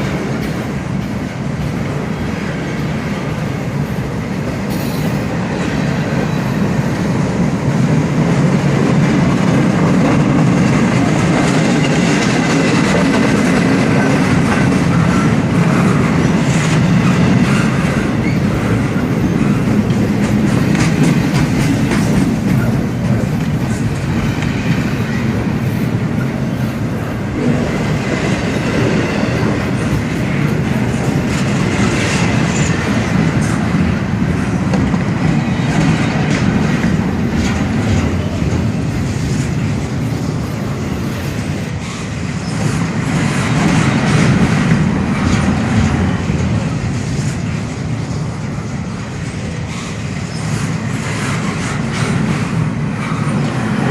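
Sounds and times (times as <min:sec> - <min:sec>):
wheels clacking over rail joints: 0:00.0 - 0:48.3
train wheels rumbling on rails: 0:00.0 - 0:53.9.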